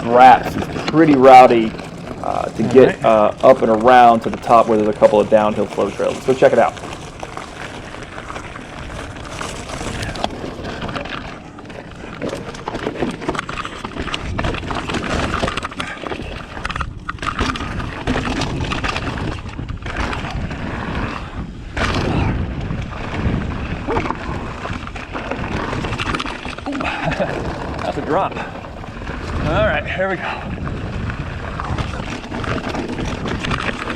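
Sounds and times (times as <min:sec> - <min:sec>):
bike rattling over bumps: 0:00.0 - 0:33.9
bike tyres rolling on ground: 0:00.0 - 0:33.9
wind buffeting microphone: 0:00.0 - 0:33.9.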